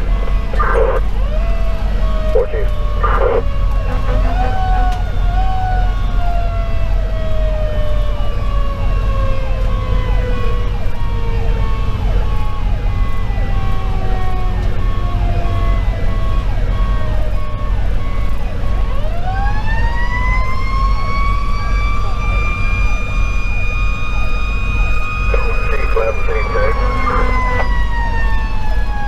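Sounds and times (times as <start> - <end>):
diesel engine and road rumble: 0.0 - 29.0
electronic siren yelping: 0.0 - 29.0.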